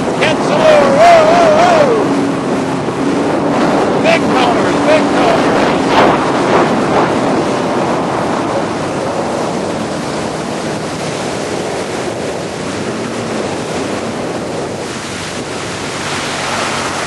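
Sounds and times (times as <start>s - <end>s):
water rushing and spraying: 0.0s - 17.0s
wind buffeting microphone: 0.0s - 17.0s.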